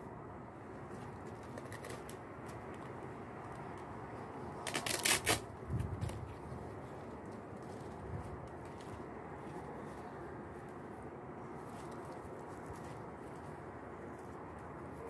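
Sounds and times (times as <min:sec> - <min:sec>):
dry leaf strip rustling: 0:00.7 - 0:15.0.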